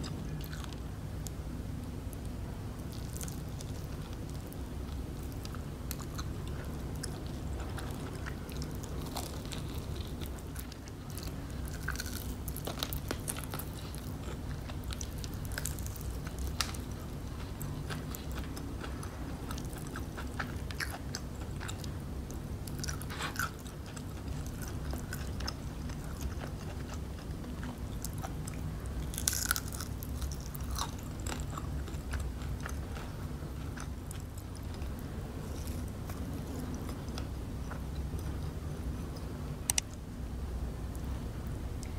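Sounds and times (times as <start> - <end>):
chewing crispy fried chicken: 0.0 - 40.0.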